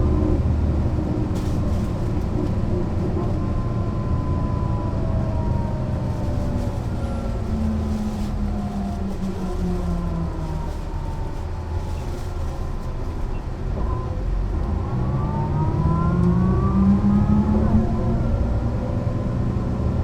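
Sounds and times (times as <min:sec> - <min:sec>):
diesel bus engine accelerating: 0:00.0 - 0:20.0
high engine whine: 0:00.0 - 0:20.0.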